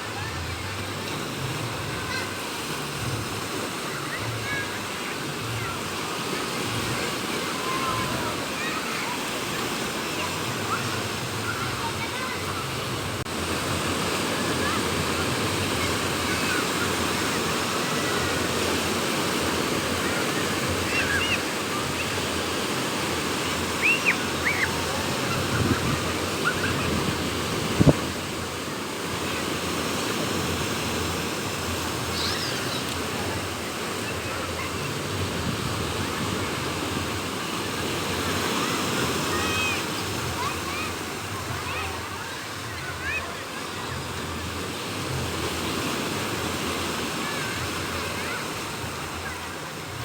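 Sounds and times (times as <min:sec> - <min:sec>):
sea waves breaking on shore: 0:00.0 - 0:50.0
wind: 0:00.0 - 0:50.0.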